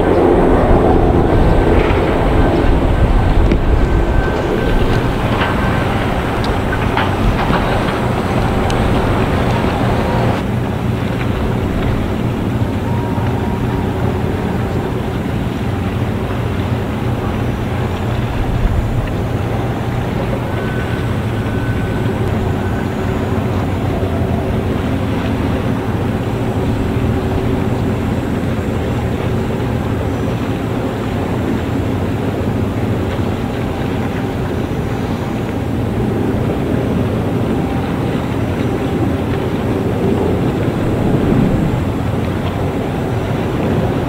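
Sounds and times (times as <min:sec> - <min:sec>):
bow wash hissing on water: 0:00.0 - 0:44.0
ship engines droning: 0:00.0 - 0:44.0.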